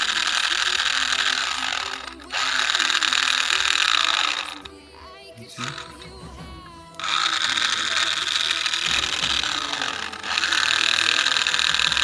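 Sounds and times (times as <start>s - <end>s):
toy car electric motor whining: 0.0s - 12.0s.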